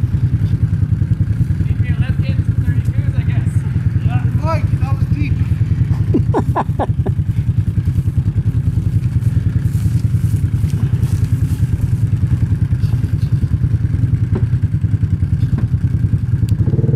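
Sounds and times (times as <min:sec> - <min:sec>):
atv engine idling: 0:00.0 - 0:16.9.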